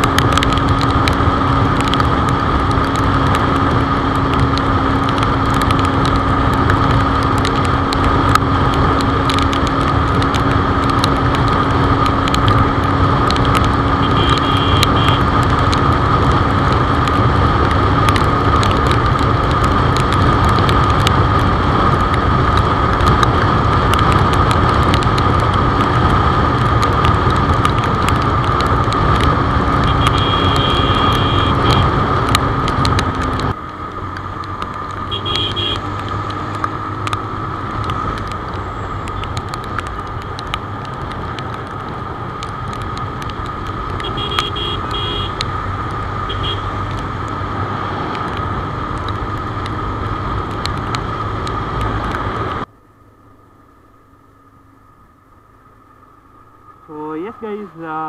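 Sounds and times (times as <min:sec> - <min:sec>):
motorcycle engine cruising: 0:00.0 - 0:58.0
tyre noise on wet road: 0:00.0 - 0:58.0.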